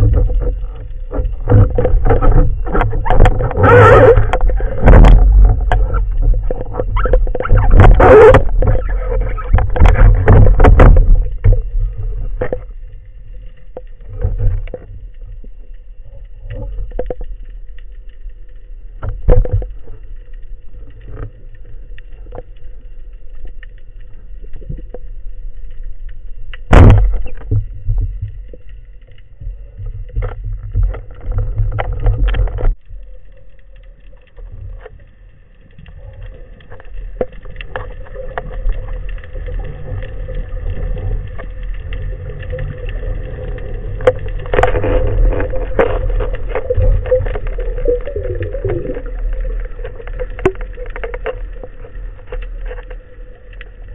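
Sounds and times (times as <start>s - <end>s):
faint steady hum: 0.0s - 53.9s
underwater rumble: 0.0s - 53.9s.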